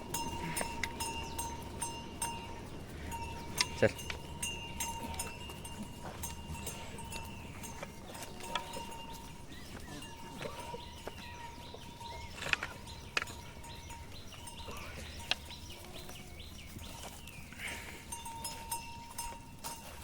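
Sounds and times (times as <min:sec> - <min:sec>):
bird chirps: 0:00.0 - 0:19.8
hooves knocking on stones: 0:00.0 - 0:20.0.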